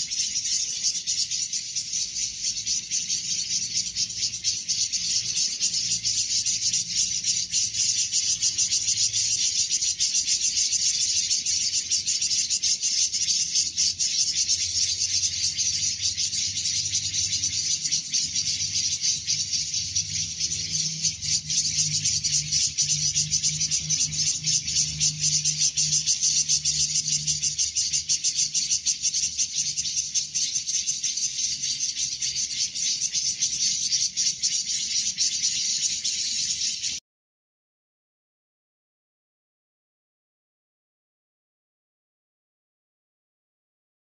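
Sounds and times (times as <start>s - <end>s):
insects buzzing trill: 0.0s - 37.0s.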